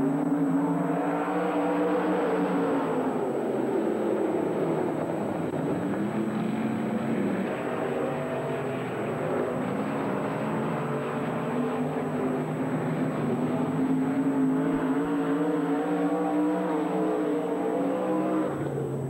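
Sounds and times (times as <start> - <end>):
race car engines rumbling: 0.0 - 19.0.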